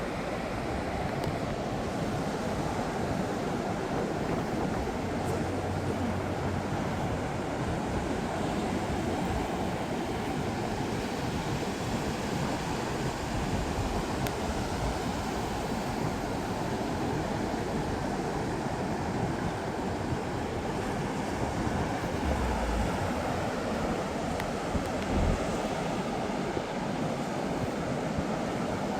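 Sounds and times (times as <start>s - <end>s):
surf breaking on beach: 0.2s - 28.6s
wind rumbling on microphone: 0.3s - 28.8s.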